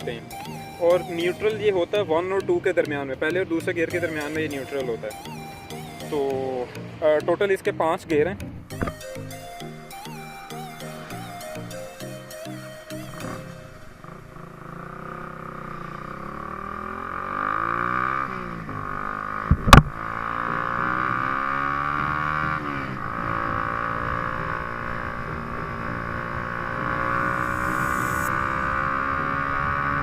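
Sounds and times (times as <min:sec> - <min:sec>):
motorcycle engine accelerating: 0:00.0 - 0:07.0, 0:08.4 - 0:30.0.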